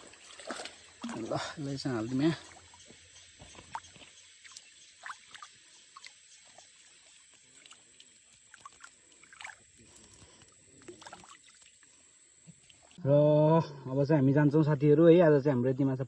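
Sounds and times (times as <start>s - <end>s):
small splashes of water: 0.0s - 13.0s
trickling water: 0.0s - 13.0s.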